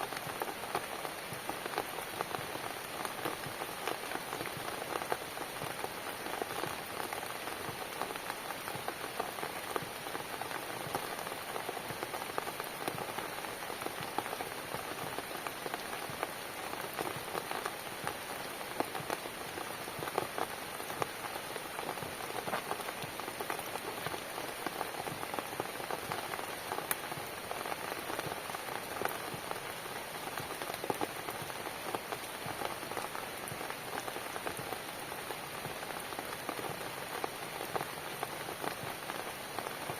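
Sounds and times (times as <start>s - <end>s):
rain falling on a cabin: 0.0s - 39.9s.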